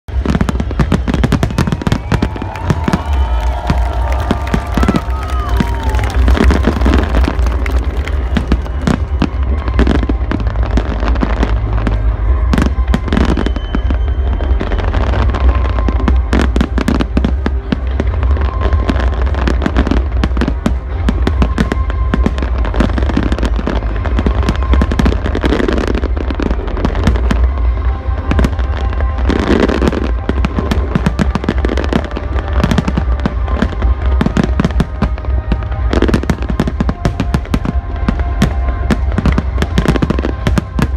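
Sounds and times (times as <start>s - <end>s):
fireworks bangs and crackling: 0.1s - 40.9s.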